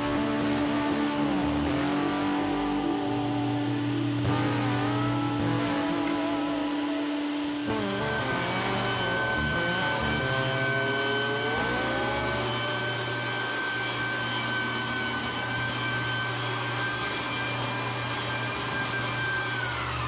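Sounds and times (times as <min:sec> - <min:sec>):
shop vacuum whining: 0:00.0 - 0:20.0.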